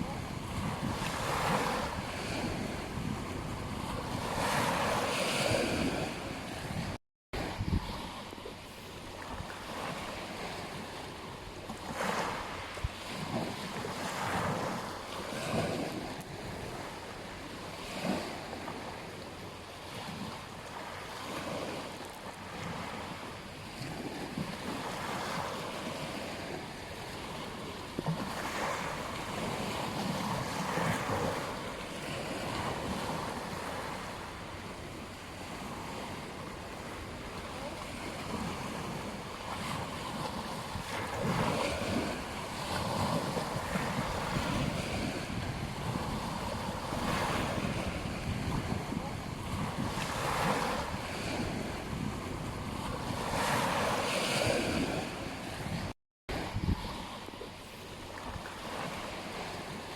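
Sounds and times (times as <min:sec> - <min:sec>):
ocean waves breaking: 0:00.0 - 0:59.9
wind on microphone: 0:00.0 - 0:59.9.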